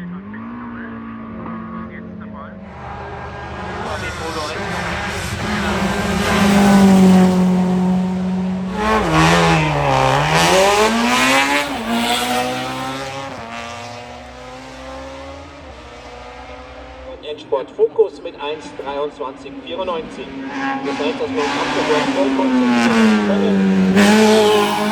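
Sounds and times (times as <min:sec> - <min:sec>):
race car engine at high revs: 0:00.0 - 0:24.9.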